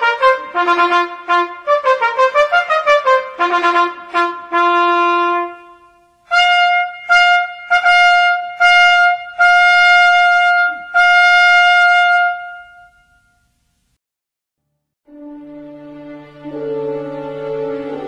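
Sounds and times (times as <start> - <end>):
solo trumpet fanfare: 0.0 - 13.4, 15.1 - 18.0.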